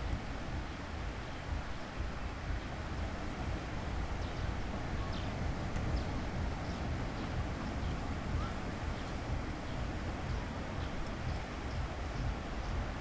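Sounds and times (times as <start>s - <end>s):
sea surf on a beach: 0.0s - 13.0s
wind on the microphone: 0.0s - 13.0s.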